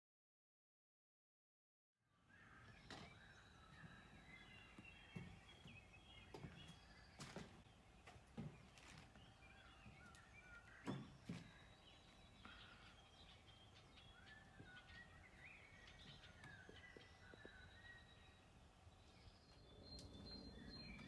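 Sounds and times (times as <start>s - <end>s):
faint birds chirping: 2.0s - 21.0s.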